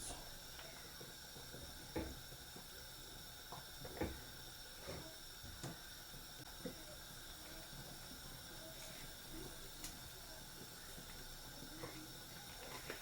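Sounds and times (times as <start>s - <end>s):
soup simmering hiss: 0.0s - 13.0s.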